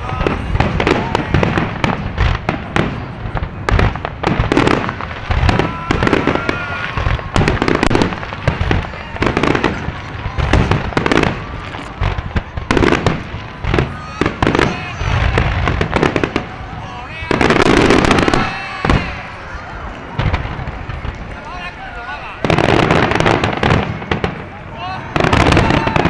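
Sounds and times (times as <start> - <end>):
deep fireworks booms: 0.0 - 26.0
fireworks bangs and crackles: 0.0 - 26.0.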